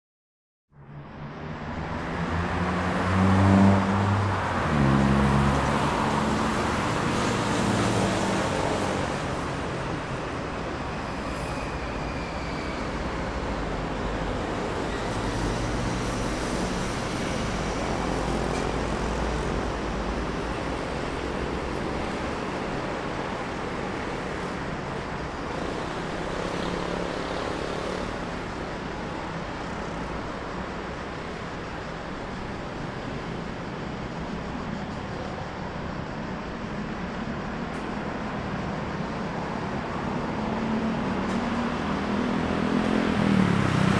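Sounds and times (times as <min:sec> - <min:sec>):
traffic rumble: 0:00.7 - 0:43.9
cars passing by: 0:00.8 - 0:43.9.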